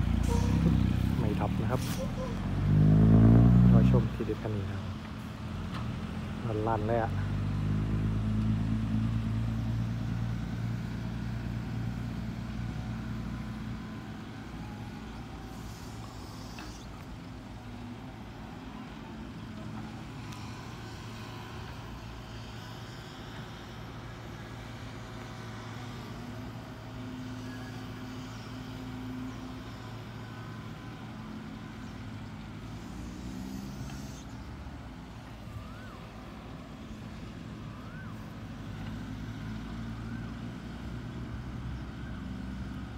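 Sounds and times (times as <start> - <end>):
diesel truck engine: 0.0 - 42.9.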